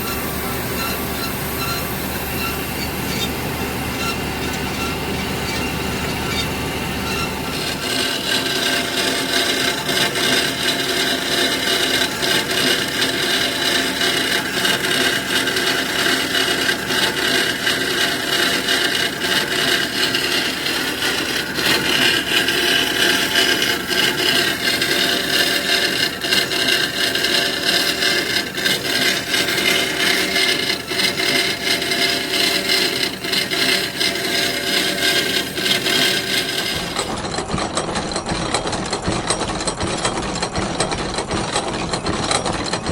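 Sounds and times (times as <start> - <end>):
metal bandsaw cutting metal: 0.0 - 42.9.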